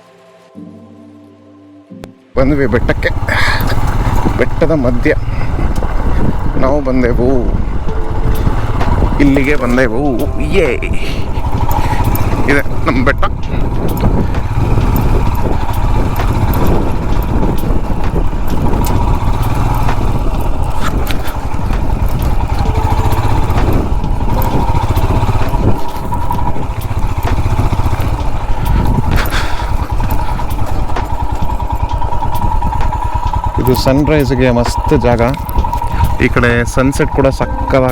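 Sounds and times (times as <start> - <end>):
motorcycle engine running: 2.4 - 37.9.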